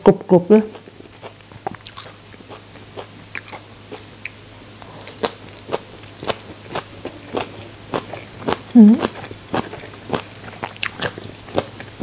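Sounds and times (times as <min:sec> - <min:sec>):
chewing crispy fried fish: 0:00.7 - 0:12.0.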